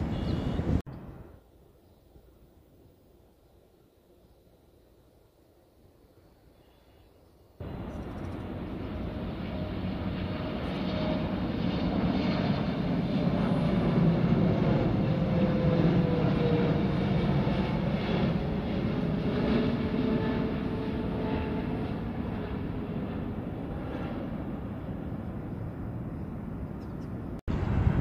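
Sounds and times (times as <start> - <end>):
jet airliner passing overhead: 0.0 - 0.9, 5.3 - 28.0.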